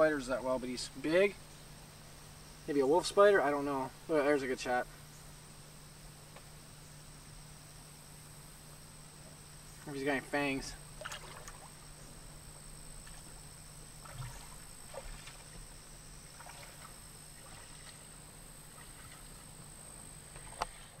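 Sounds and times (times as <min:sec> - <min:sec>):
high whine: 0:00.0 - 0:21.0
low hum: 0:00.0 - 0:21.0.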